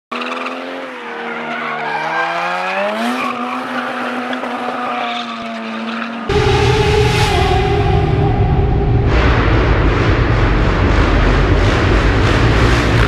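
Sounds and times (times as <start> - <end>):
car engine revving: 1.6 - 13.0.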